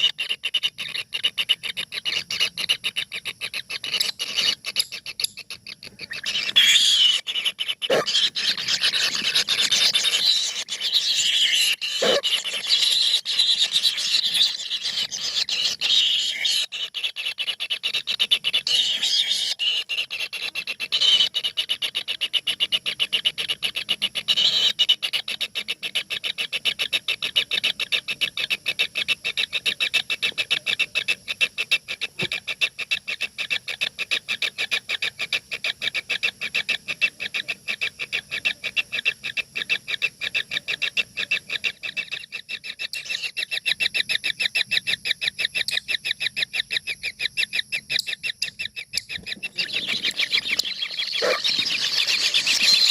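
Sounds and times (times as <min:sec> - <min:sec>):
nestling birds begging calls: 0:00.0 - 0:26.0, 0:26.8 - 0:44.6, 0:45.3 - 0:52.9.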